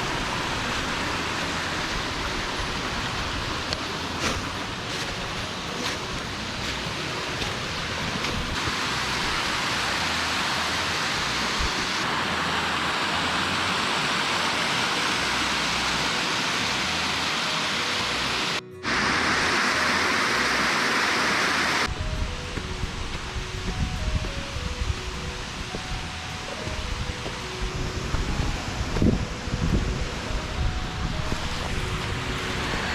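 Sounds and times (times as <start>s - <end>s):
waterfall roaring: 0.0s - 21.9s, 22.6s - 32.9s
soft background music: 0.0s - 32.9s.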